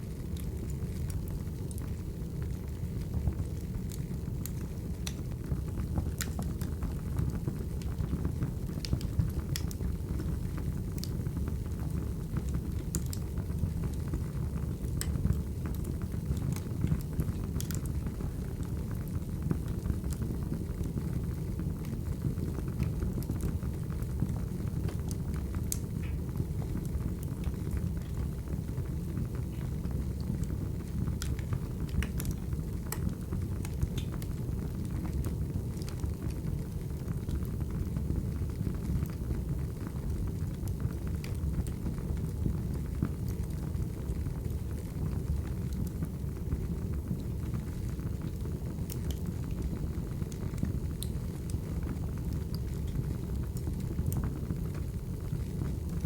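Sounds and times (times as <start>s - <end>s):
fire crackling and popping: 0.0s - 56.0s
wood fire burning: 0.0s - 56.0s.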